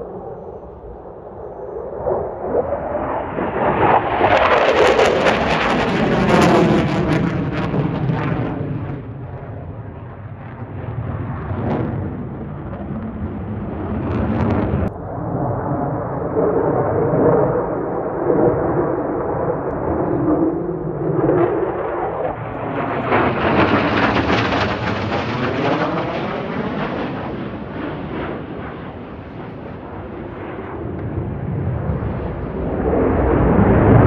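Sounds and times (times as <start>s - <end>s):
fighter jet engine rumble: 0.0s - 34.0s.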